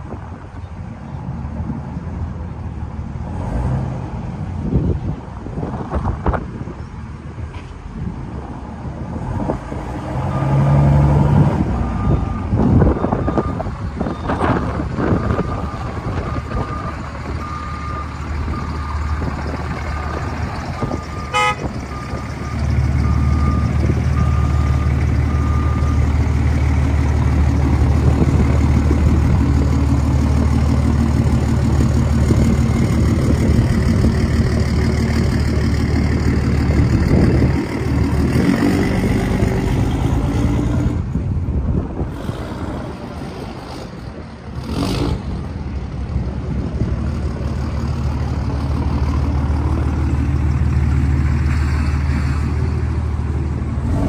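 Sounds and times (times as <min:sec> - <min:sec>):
diesel engine running: 0:08.0 - 0:54.0.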